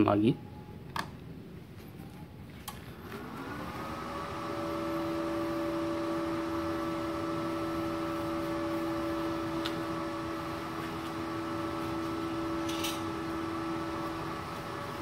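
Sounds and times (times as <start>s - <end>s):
cooling fan whining and humming: 0.0s - 15.0s.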